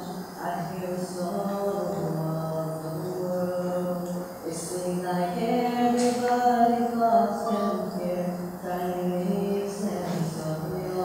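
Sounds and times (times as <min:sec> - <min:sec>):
young man singing long notes: 0:00.0 - 0:11.0.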